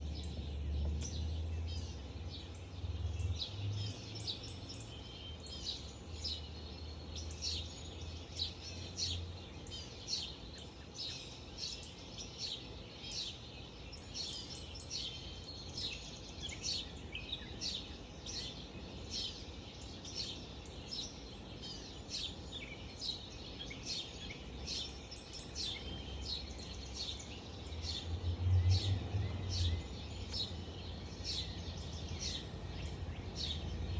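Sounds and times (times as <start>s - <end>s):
birds chirping and singing: 0.0s - 33.9s.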